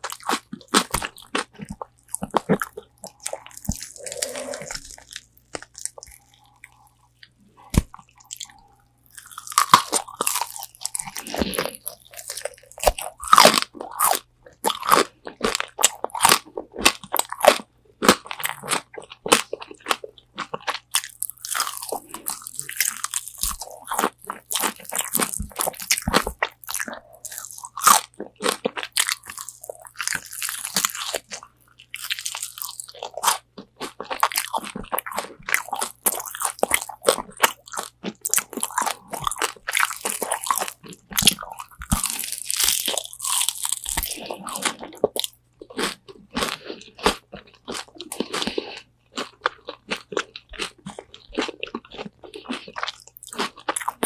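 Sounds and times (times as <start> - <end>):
crunching fried chicken: 0.0 - 54.0
wet chewing: 0.0 - 54.0.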